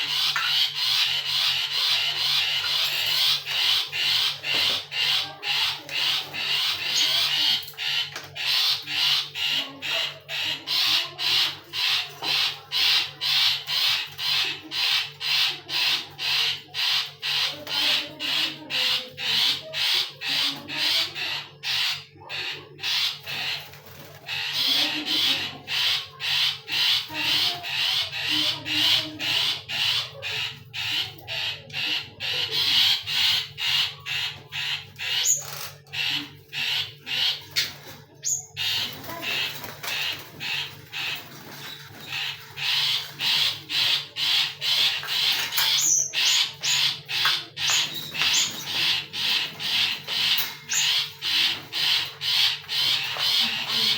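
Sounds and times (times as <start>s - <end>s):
birds calling harshly: 0.0s - 53.9s.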